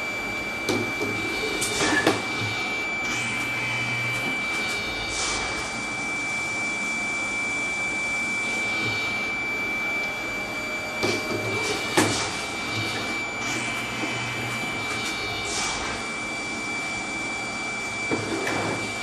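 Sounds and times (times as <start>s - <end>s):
high whine: 0.0s - 19.0s.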